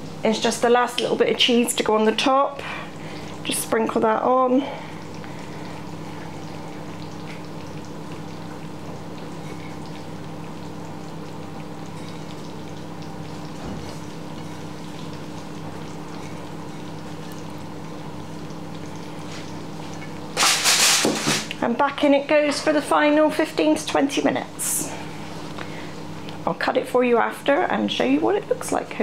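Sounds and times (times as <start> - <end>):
food bubbling and sizzling: 0.0 - 29.0
oven fan hum: 0.0 - 29.0.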